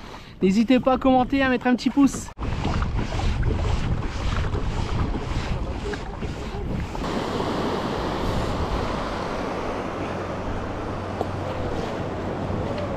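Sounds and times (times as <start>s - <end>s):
small waves washing around kayak: 1.4s - 12.9s
wind buffeting microphone: 2.2s - 12.9s.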